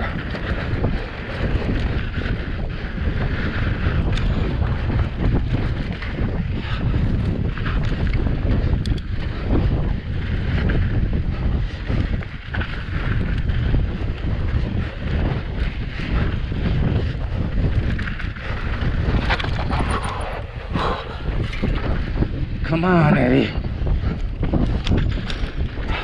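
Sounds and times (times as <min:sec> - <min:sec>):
bike clattering over bumps: 0:00.0 - 0:22.6, 0:23.6 - 0:26.0
bike tyres rumbling on dirt: 0:00.0 - 0:26.0
wind buffeting microphone: 0:00.0 - 0:26.0.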